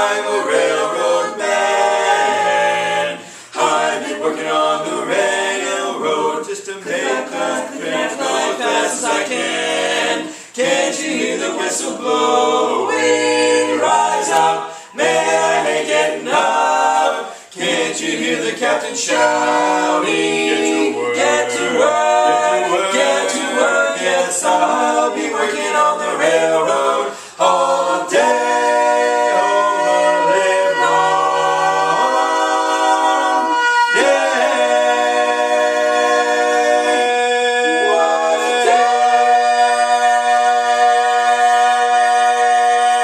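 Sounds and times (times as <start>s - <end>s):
barbershop quartet singing a cappella: 0.0s - 43.0s.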